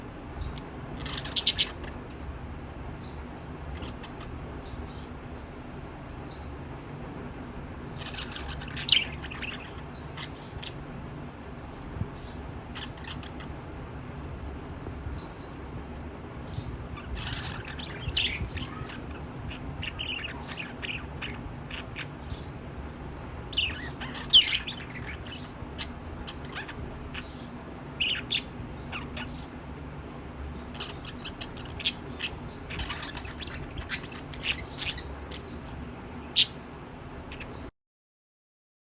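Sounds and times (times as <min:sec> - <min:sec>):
low background hum: 0:00.0 - 0:37.7
lovebirds chirping: 0:00.3 - 0:11.2, 0:12.0 - 0:13.6, 0:15.0 - 0:37.7.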